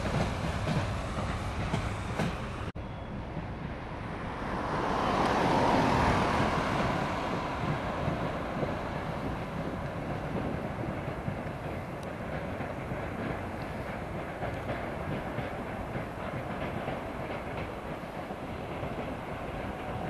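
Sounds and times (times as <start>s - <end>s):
train wagons rumbling: 0.0s - 20.0s.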